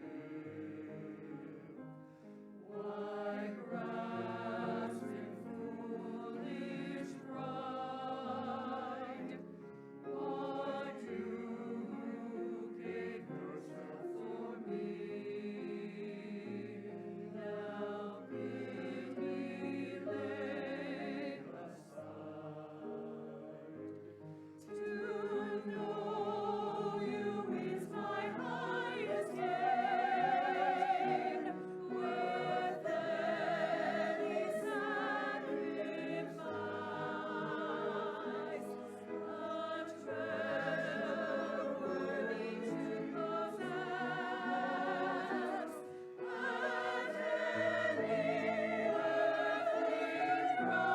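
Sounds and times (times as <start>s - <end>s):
church choir singing: 0.0s - 50.9s.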